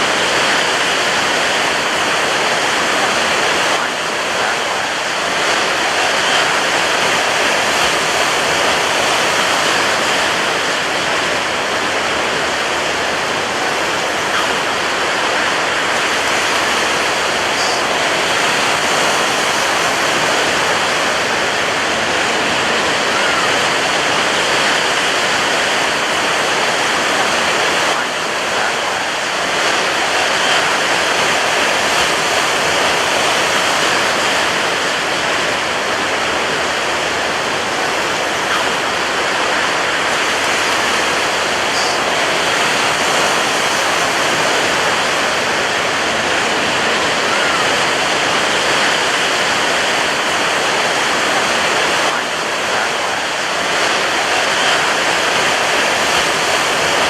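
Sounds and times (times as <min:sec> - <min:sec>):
surf breaking on beach: 0:00.0 - 0:57.0.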